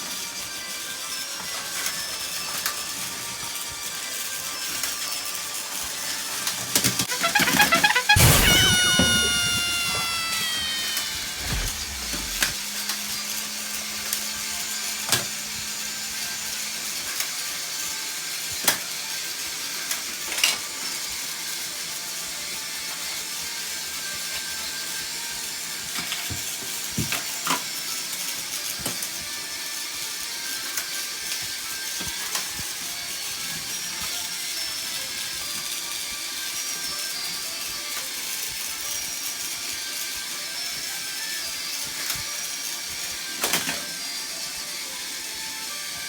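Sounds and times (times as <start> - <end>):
toy train motor whirring: 0.0 - 46.0.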